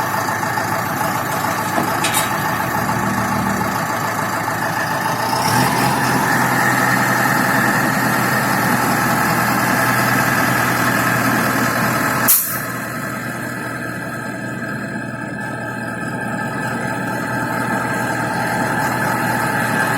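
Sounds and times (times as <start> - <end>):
truck engine running: 0.0 - 19.9.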